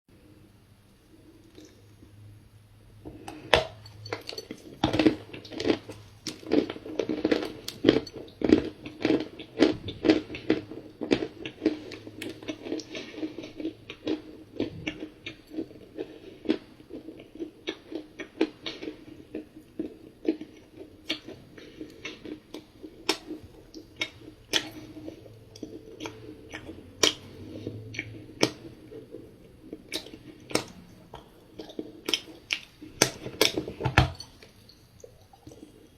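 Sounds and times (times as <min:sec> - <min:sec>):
crunching cookie chewing: 0:03.1 - 0:35.9.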